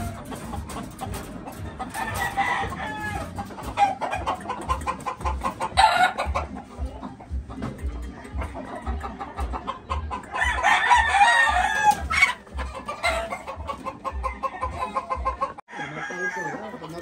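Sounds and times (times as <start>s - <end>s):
roosters crowing and clucking: 0.0s - 17.0s.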